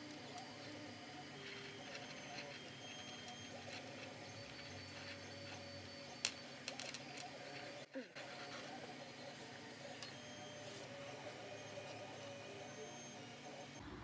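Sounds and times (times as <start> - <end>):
faint machine whir: 0.0 - 14.0.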